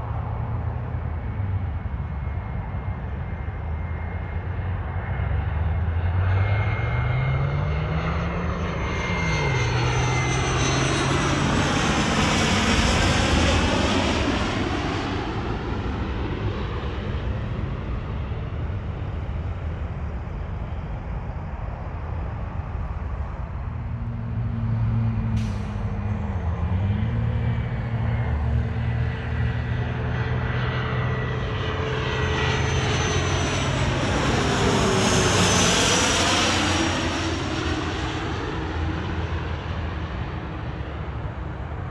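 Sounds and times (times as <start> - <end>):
jet engines passing overhead: 0.0 - 41.9.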